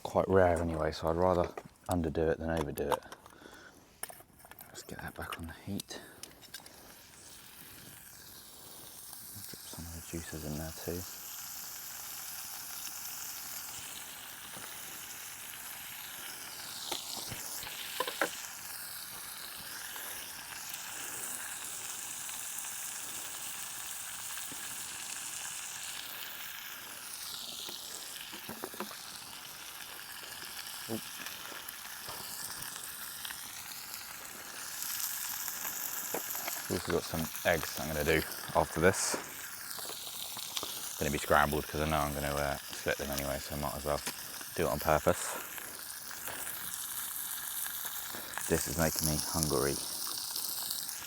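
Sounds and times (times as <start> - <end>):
fat popping and crackling: 0.0 - 51.0
steak sizzling in a frying pan: 5.5 - 51.0.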